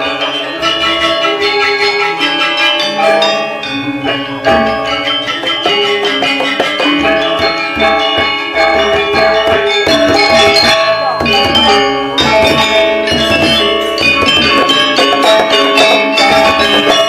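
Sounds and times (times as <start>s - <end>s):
gamelan metallophones playing: 0.0s - 17.0s.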